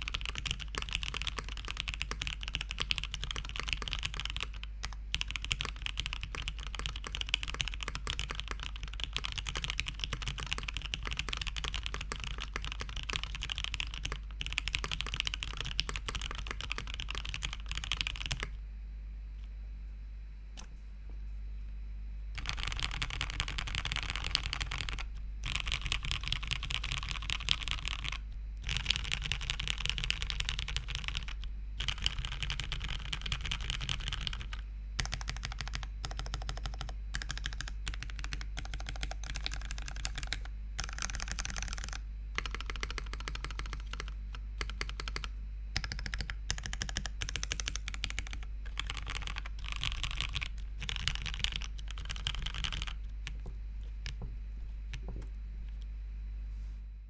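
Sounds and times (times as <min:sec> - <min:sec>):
mechanical keyboard typing: 0:00.0 - 0:18.5, 0:22.4 - 0:54.3.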